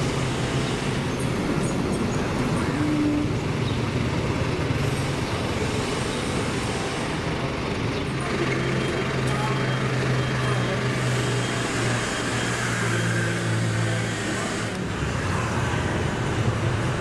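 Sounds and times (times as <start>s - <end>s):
motorbike and vehicle engines passing: 0.0s - 17.0s.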